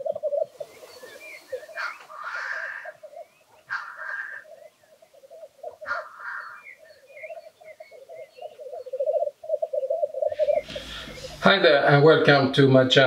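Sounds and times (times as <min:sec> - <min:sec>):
grouse bubbling coo: 0:00.0 - 0:11.5
small birds chirping: 0:00.0 - 0:12.0.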